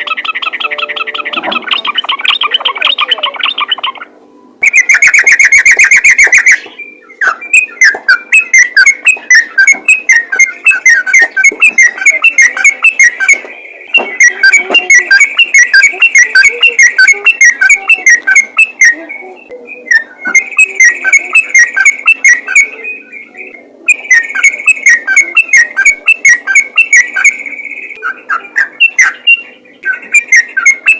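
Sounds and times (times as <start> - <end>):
bird singing bubbly whistles: 0.0 - 30.9.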